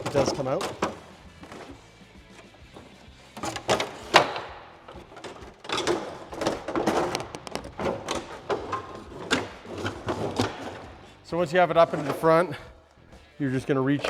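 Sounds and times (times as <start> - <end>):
scraping rubs: 0.0 - 14.0.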